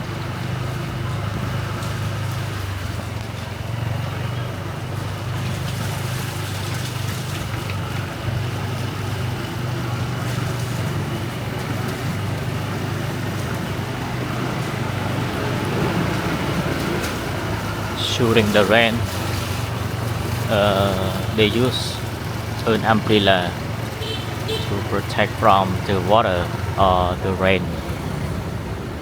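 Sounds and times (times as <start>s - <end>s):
street traffic rumble: 0.0s - 29.0s.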